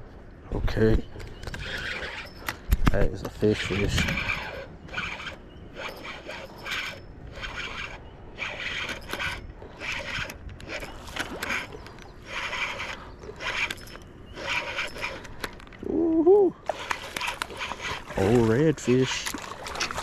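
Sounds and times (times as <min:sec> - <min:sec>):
fishing reel whirring: 0:01.4 - 0:02.7, 0:03.4 - 0:15.9, 0:16.6 - 0:20.0.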